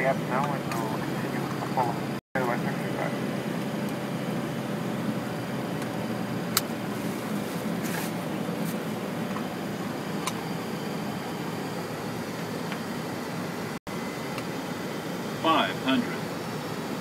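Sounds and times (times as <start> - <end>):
airplane cockpit airflow and engine: 0.0 - 17.0.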